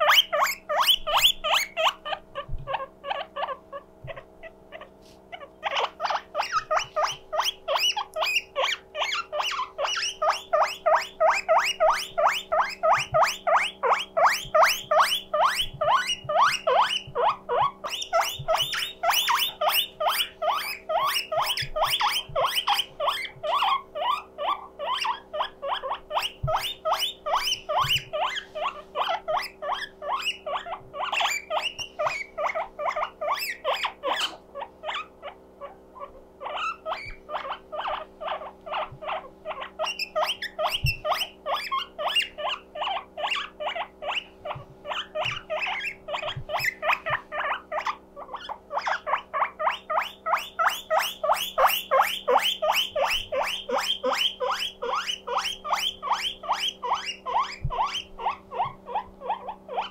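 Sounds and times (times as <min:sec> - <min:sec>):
guinea pig wheeking: 0:00.0 - 0:59.9.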